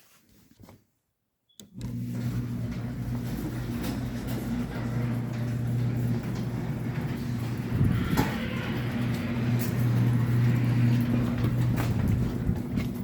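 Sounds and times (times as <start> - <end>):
garage door opener motor hum: 1.6 - 13.0
garage door clatter: 1.9 - 13.0.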